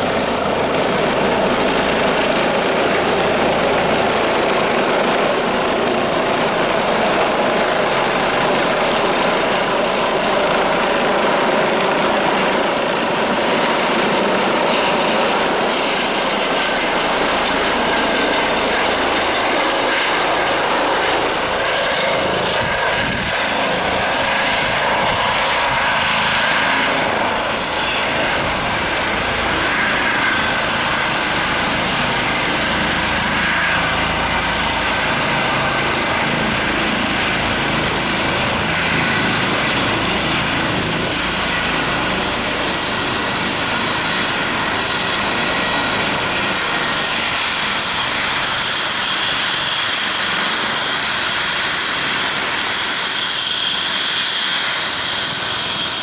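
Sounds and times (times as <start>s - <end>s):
helicopter rotor rumble: 0.0s - 56.0s
turbine engine whine: 0.0s - 56.0s.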